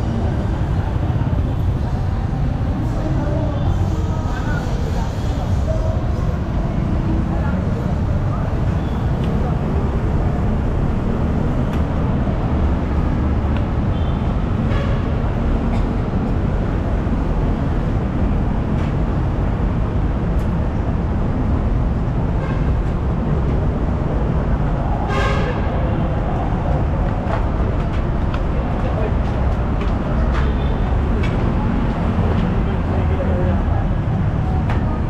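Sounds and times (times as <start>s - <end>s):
city street traffic rumble: 0.0s - 35.0s.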